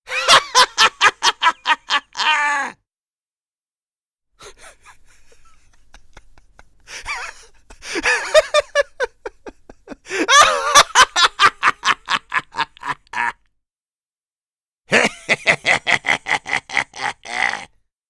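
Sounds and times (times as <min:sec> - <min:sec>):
man laughing maniacally: 0:00.1 - 0:02.8, 0:04.4 - 0:13.5, 0:14.9 - 0:17.8.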